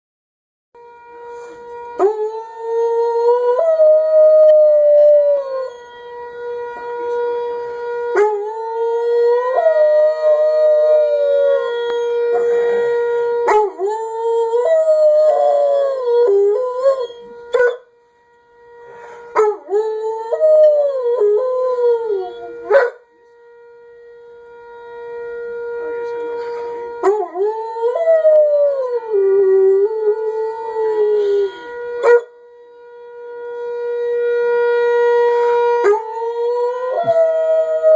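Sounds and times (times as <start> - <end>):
warning siren steady tone: 0.8 - 37.9.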